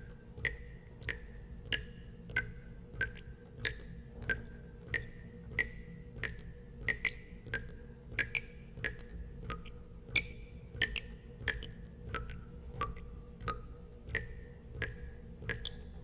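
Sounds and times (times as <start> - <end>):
water drops plinking into water: 0.0 - 16.0.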